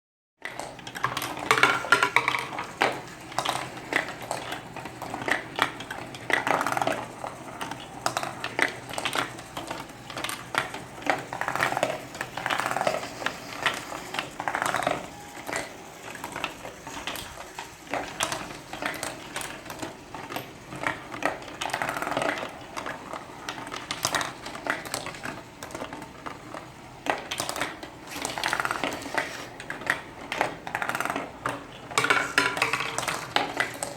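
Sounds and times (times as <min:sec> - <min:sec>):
marbles rolling and clattering: 0:00.4 - 0:33.9.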